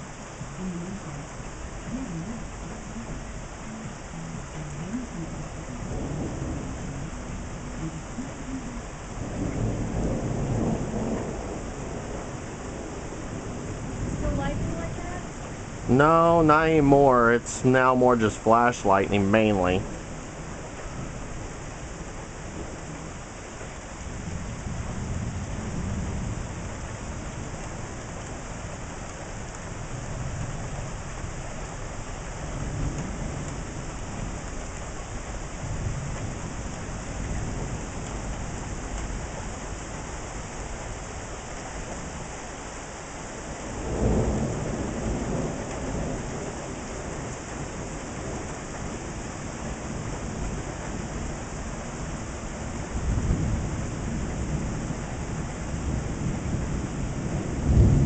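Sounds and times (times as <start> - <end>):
steady rain: 0.0 - 58.0
distant thunder rolling: 4.5 - 23.2, 24.0 - 41.1, 43.6 - 58.0.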